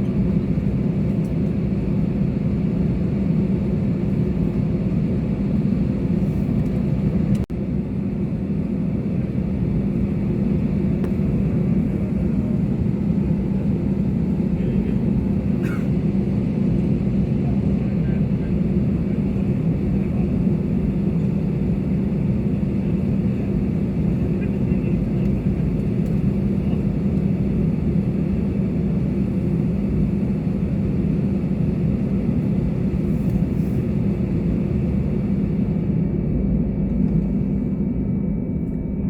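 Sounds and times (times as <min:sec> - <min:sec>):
jet engines rumbling in flight: 0:00.0 - 0:39.0.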